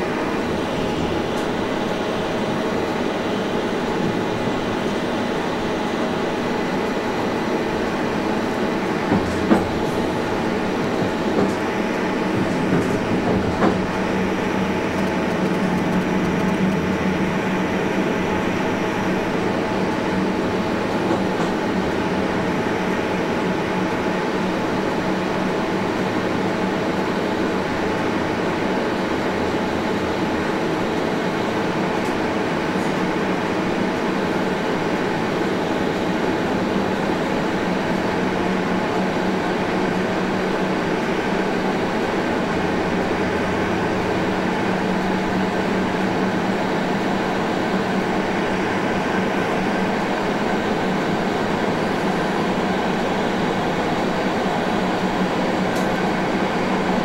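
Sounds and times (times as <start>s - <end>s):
train running: 0.0s - 57.0s.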